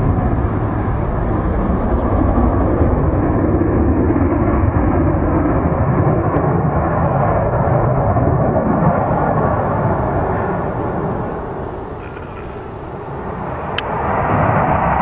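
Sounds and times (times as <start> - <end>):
aircraft engine rumble: 0.0 - 15.0.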